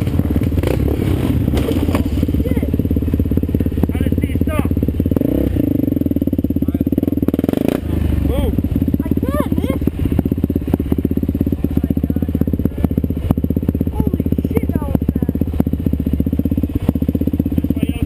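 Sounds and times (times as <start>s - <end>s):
quad bike engines idling: 0.0s - 18.0s.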